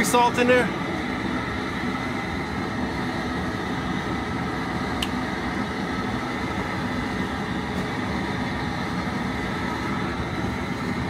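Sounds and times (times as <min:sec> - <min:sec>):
propane burner roaring: 0:00.0 - 0:11.0.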